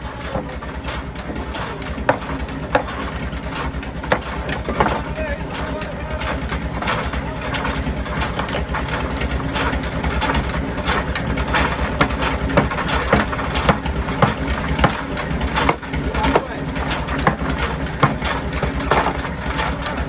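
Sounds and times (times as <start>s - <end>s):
sawmill engine throbbing: 0.0s - 20.0s
sharp knocks: 0.3s - 19.8s.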